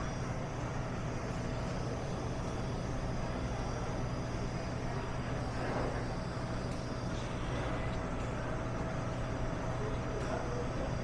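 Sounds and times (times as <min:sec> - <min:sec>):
faint constant whine: 0:00.0 - 0:11.0
low machine hum: 0:00.0 - 0:11.0.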